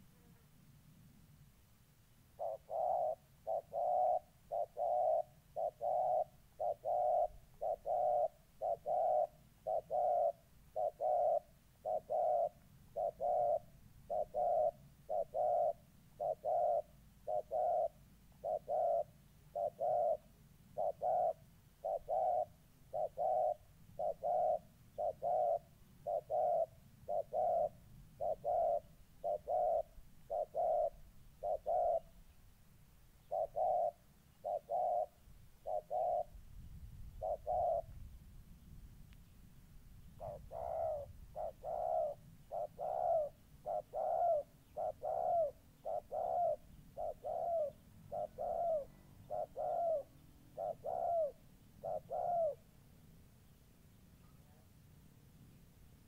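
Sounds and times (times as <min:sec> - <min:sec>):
doves cooing: 0:02.3 - 0:32.4, 0:33.2 - 0:36.4, 0:37.1 - 0:38.0, 0:40.1 - 0:52.8.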